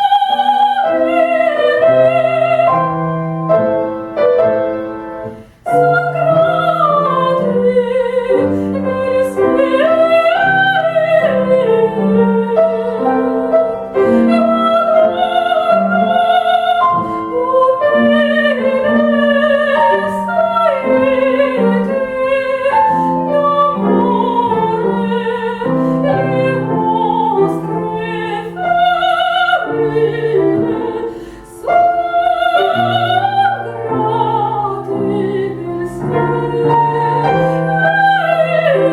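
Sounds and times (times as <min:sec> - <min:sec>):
woman singing with vibrato: 0:00.0 - 0:03.3, 0:05.6 - 0:38.9
grand piano: 0:00.0 - 0:38.9.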